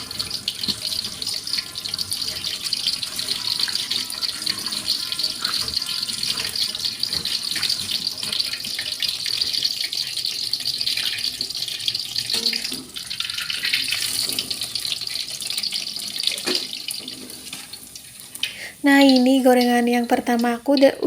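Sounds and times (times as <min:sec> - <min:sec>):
tap water running into sink: 0:00.0 - 0:20.9.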